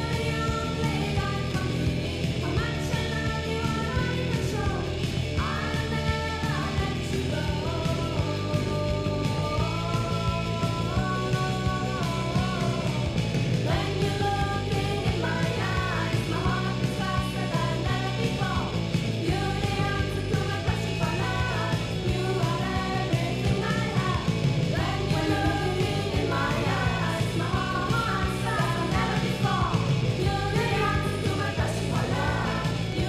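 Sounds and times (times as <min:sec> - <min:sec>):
rock band playing: 0:00.0 - 0:33.0
woman singing lead: 0:00.0 - 0:33.0.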